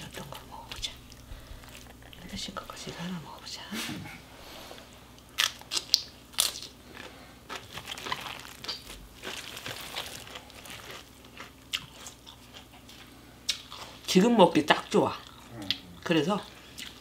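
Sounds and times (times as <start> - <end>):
crunching and chewing kimchi: 0.0 - 3.2, 5.1 - 17.0.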